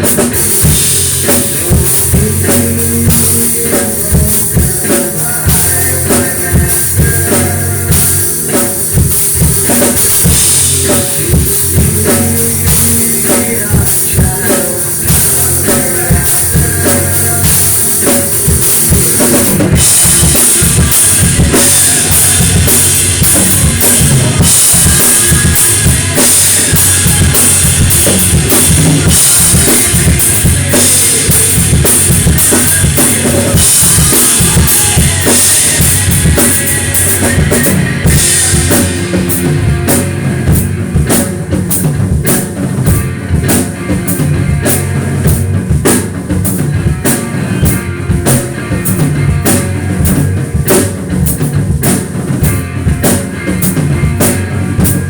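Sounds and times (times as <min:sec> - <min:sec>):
drum kit played hard: 0:00.0 - 0:55.0.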